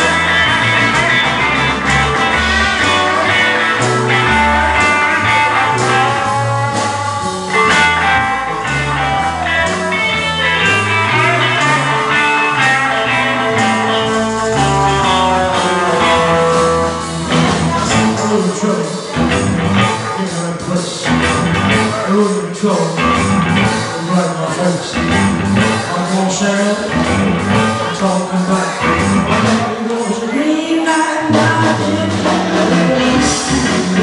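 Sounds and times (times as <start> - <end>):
bass line: 0.0 - 34.0
blues band playing: 0.0 - 34.0.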